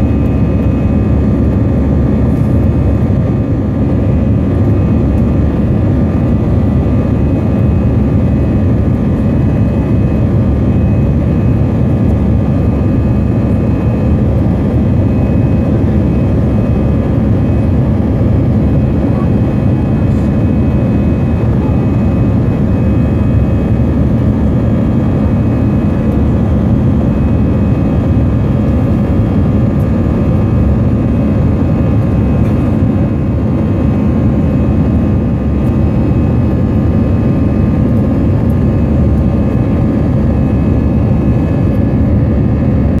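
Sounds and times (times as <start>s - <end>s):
faint engine whine: 0.0s - 43.0s
jet engines roaring in cabin: 0.0s - 43.0s.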